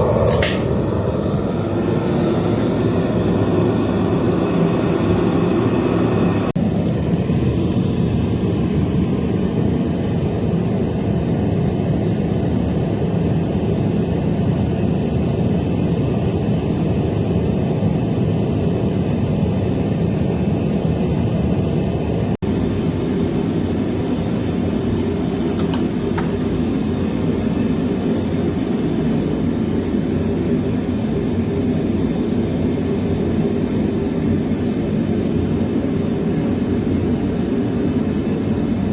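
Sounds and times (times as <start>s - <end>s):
furnace burner roaring: 0.0s - 38.9s.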